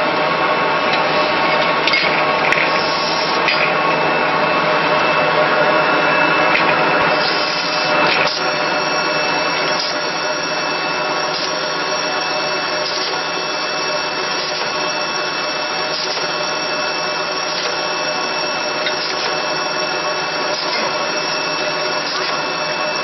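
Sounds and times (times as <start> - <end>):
bottle rinser machine whirring: 0.0 - 23.0.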